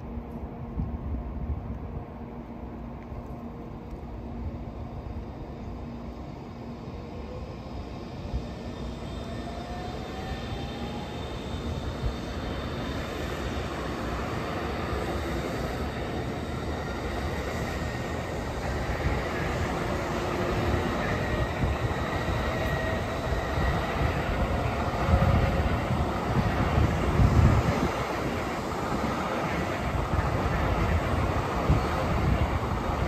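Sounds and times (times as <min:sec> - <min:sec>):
train wheels rumbling: 0:02.6 - 0:33.0.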